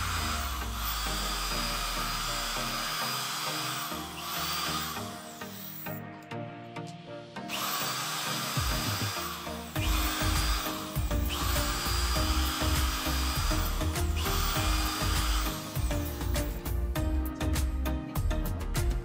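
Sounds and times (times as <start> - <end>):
small electric drill drilling: 0.0 - 6.1, 7.5 - 16.8
background music: 0.0 - 19.0.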